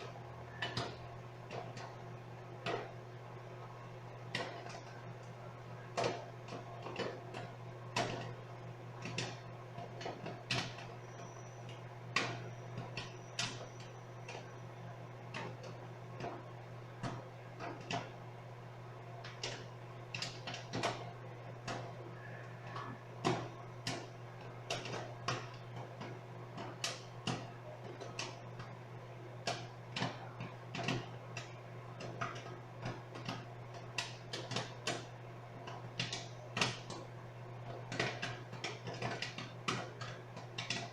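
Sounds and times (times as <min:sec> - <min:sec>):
microwave oven humming: 0:00.0 - 0:40.9
popcorn popping: 0:00.0 - 0:40.9.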